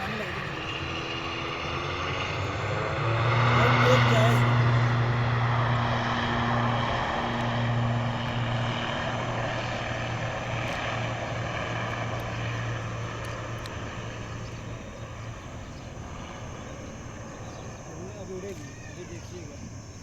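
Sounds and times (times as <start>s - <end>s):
airliner engines droning: 0.0s - 20.0s.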